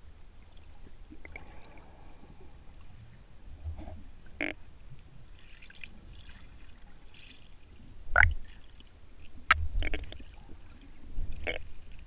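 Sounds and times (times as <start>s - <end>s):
rumble of moving water: 0.0s - 12.0s
water sloshing and bubbling: 0.0s - 12.0s
water gurgles: 0.5s - 4.7s, 5.3s - 12.0s.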